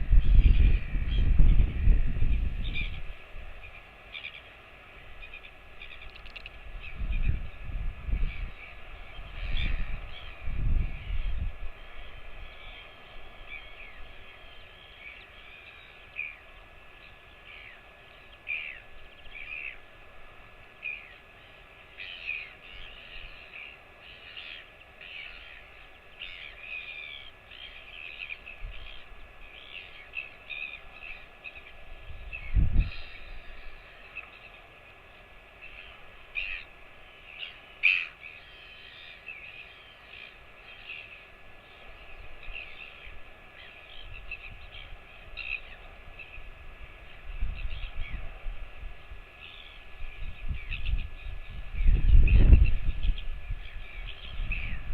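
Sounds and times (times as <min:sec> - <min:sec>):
small birds chirping: 0:00.1 - 0:19.9, 0:20.8 - 0:48.3, 0:49.3 - 0:54.9.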